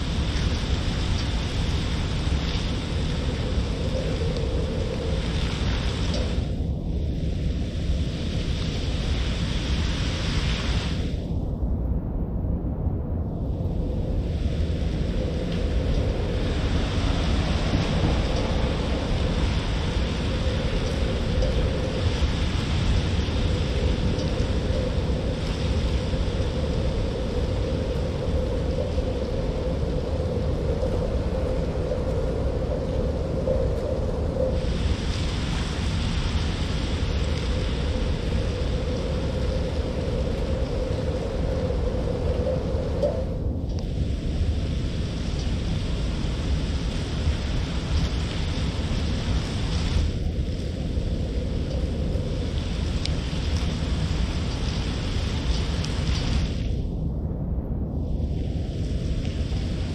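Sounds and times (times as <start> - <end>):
rain hiss on street: 0.0 - 11.4, 13.4 - 57.3, 58.0 - 59.9
low rumble: 0.0 - 59.9.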